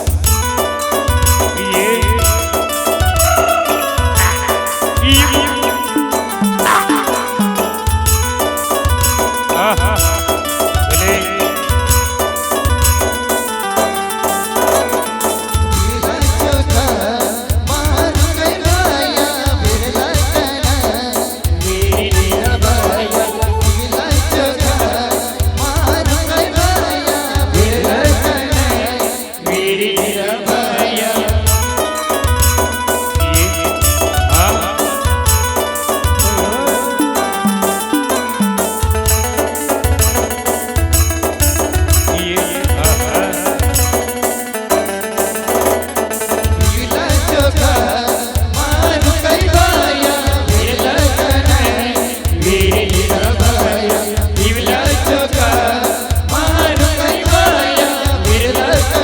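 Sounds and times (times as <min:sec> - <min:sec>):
heavy bass beat: 0:00.0 - 0:13.3, 0:15.5 - 0:44.0, 0:44.7 - 0:59.0
ornamented folk melody: 0:00.0 - 0:59.0.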